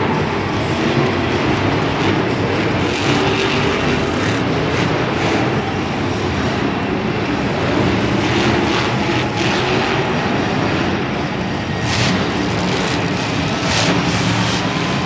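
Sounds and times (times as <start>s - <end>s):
truck engine running loudly: 0.0s - 15.0s.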